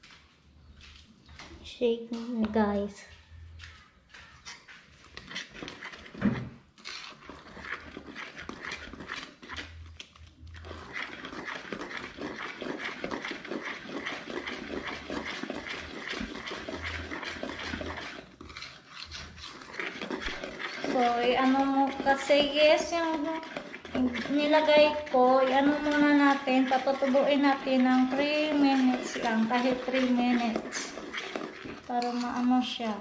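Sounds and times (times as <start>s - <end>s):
whisk beating batter in metal bowl: 4.6s - 33.0s.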